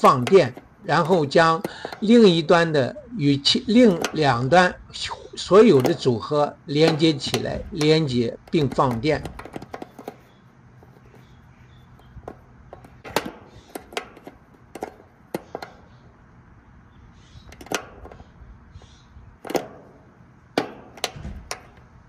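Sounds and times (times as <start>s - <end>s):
screwdriver clicking on metal terminals: 0.0s - 15.9s, 17.4s - 18.3s, 19.4s - 21.9s.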